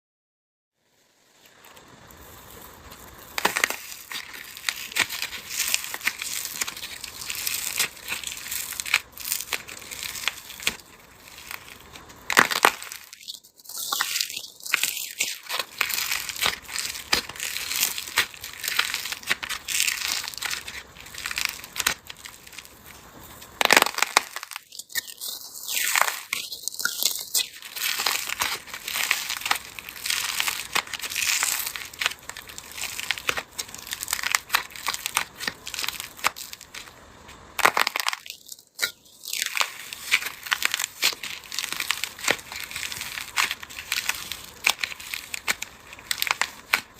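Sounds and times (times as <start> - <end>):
soap crackling and crunching: 1.2 - 46.9.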